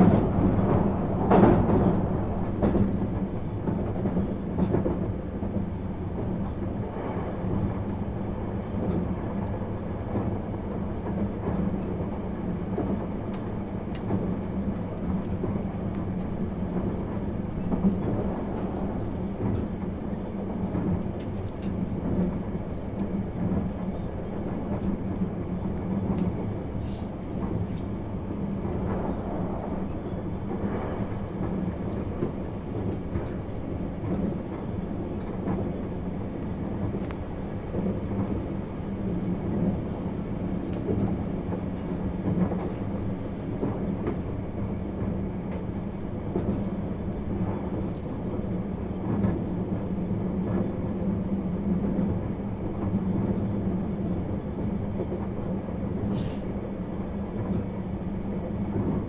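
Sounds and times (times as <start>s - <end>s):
train running noise hum: 0.0s - 59.0s.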